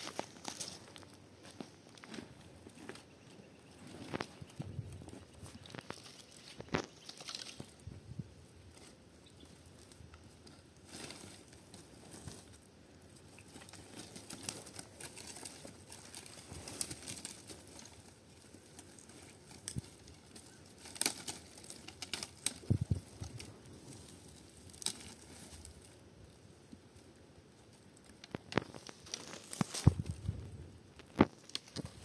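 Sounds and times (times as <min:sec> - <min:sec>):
crackling and rustling: 0:00.0 - 0:32.0.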